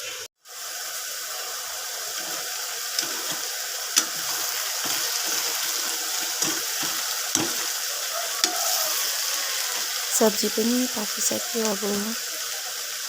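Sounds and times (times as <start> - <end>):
vegetables sizzling in a frying pan: 0.4 - 13.0.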